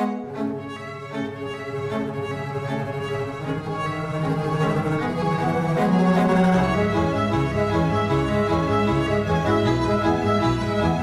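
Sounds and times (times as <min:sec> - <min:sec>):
violin and cello music: 0:00.0 - 0:11.0.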